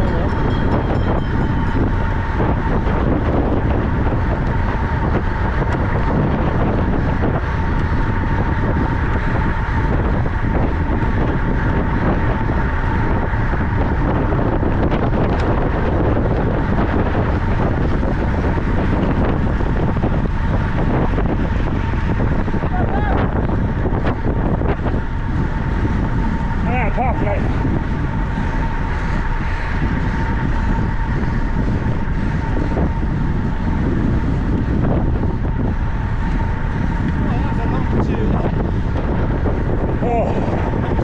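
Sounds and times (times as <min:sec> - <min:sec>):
thin high whine: 0:00.0 - 0:41.0
wind roaring over microphone: 0:00.0 - 0:41.0.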